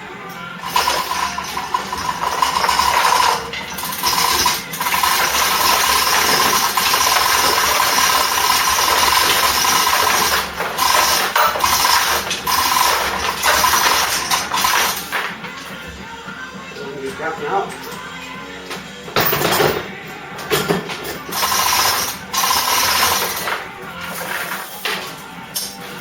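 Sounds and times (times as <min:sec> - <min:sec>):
electric hoist motor whining: 0:00.0 - 0:16.8, 0:20.9 - 0:26.0.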